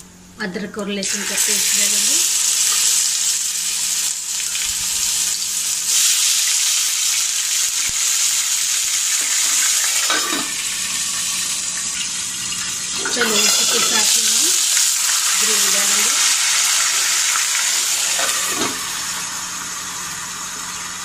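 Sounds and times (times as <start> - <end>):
paste sizzling in hot oil: 1.0 - 21.0.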